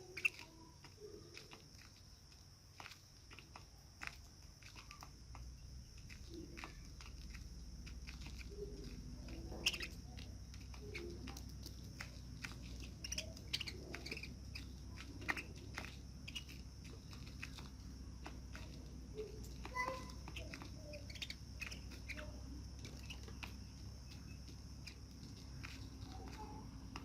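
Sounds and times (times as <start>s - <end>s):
budgerigars chirping: 0.0s - 1.6s, 5.9s - 27.0s.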